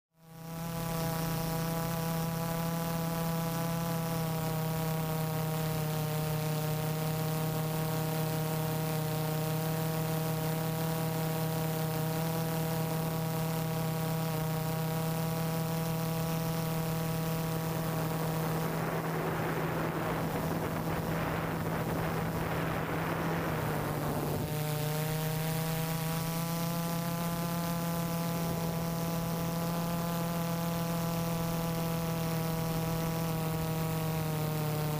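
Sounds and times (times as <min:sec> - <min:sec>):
drone propellers humming: 0:00.2 - 0:34.9.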